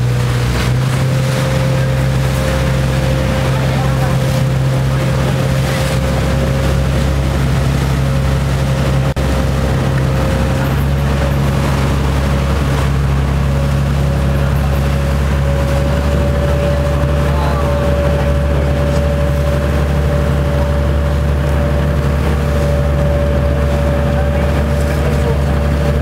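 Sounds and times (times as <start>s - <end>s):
boat engine droning: 0.0s - 26.0s
wake water churning: 0.0s - 26.0s.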